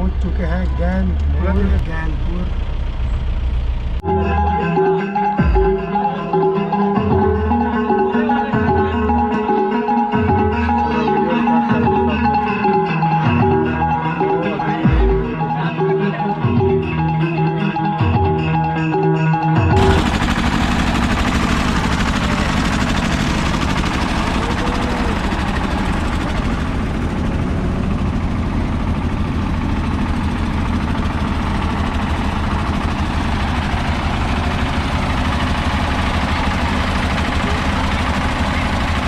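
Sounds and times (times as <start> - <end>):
large engine humming: 0.0 - 19.0, 19.6 - 39.0.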